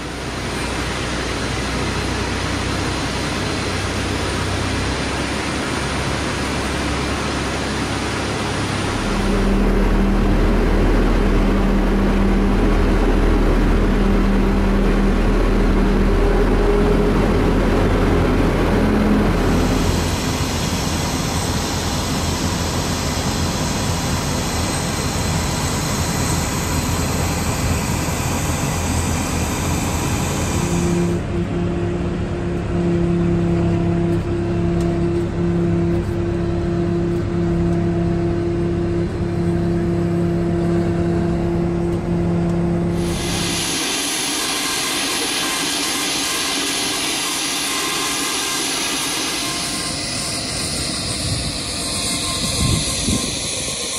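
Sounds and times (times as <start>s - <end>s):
jet and ground machinery: 0.0s - 32.8s, 38.6s - 53.9s.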